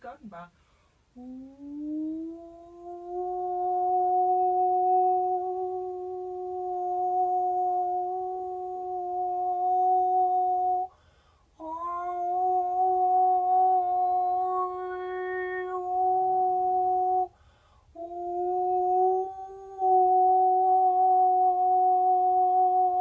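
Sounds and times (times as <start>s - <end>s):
woman singing a long steady tone: 1.2s - 11.0s, 11.6s - 17.4s, 18.0s - 23.0s.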